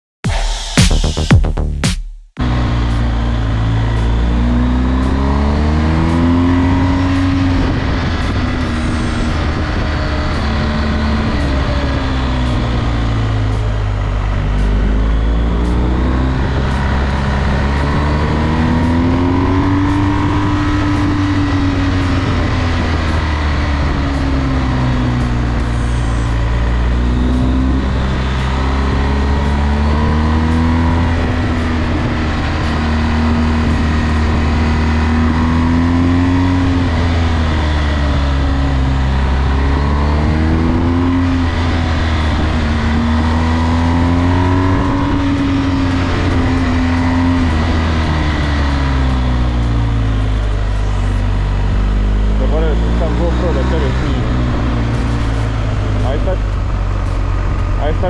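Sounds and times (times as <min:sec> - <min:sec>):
motorcycle engine revving: 0:02.4 - 0:58.0.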